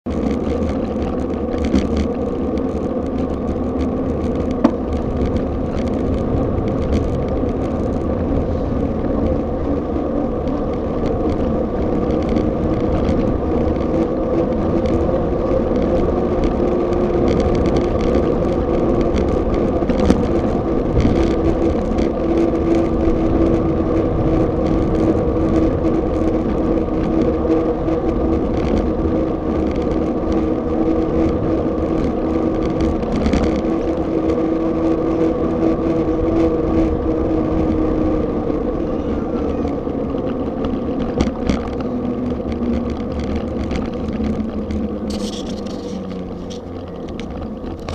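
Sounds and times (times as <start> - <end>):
wind and road rumble: 0.0 - 47.9
humming whir: 0.1 - 47.9.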